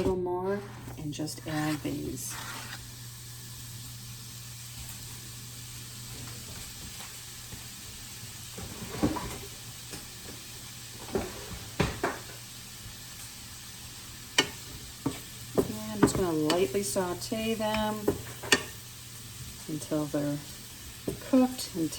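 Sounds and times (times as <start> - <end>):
mushrooms sizzling in butter: 1.0 - 21.9.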